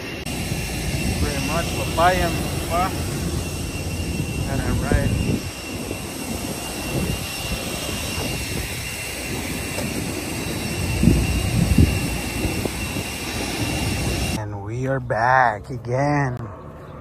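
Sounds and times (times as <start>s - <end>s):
jet engine running: 0.0s - 14.6s.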